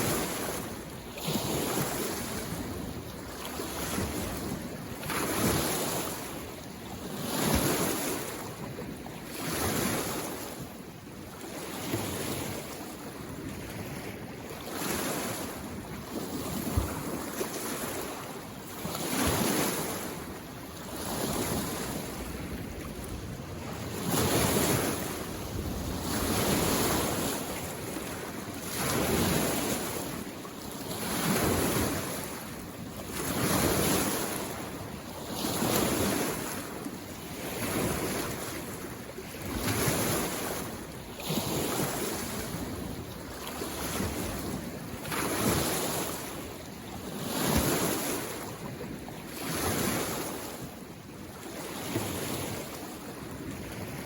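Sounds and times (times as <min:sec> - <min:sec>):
small waves washing on shore: 0:00.0 - 0:54.0.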